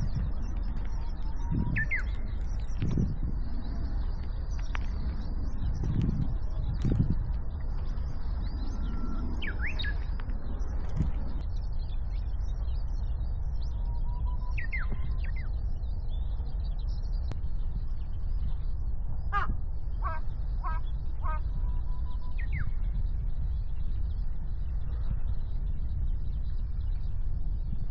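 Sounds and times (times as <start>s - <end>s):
small songbirds chirping: 0.0s - 27.9s
steady low rumble: 0.0s - 27.9s.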